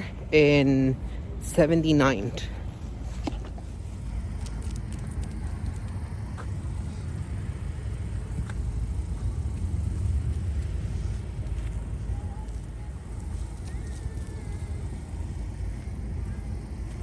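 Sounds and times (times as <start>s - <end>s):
low rumbling street background: 0.0s - 17.0s.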